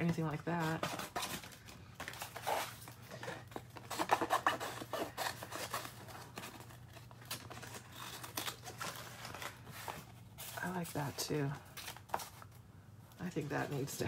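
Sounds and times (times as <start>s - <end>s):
paper rustling and scraping: 0.0s - 12.5s.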